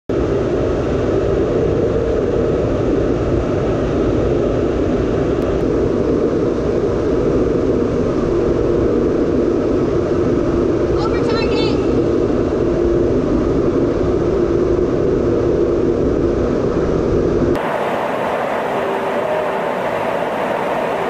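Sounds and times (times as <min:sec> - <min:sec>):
aircraft cabin engine drone: 0:00.1 - 0:21.0.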